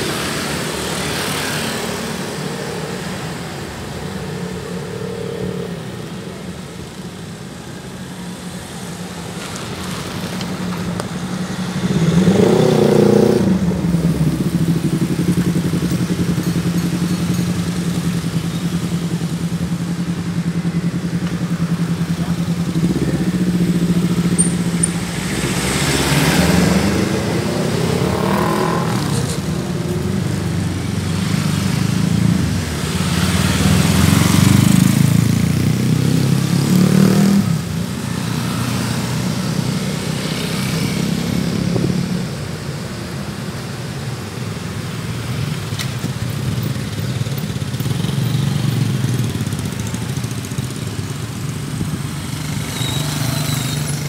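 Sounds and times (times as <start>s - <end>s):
cars and motorcycles passing: 0.0s - 54.0s
steady traffic hum: 0.0s - 54.0s.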